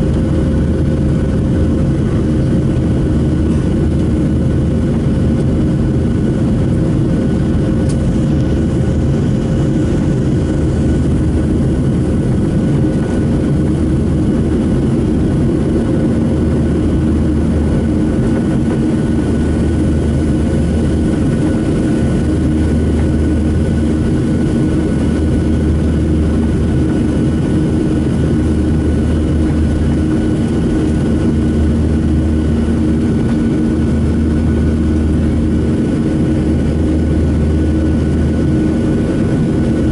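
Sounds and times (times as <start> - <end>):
jet engine rumble in cabin: 0.0 - 39.9
low drone: 0.0 - 39.9.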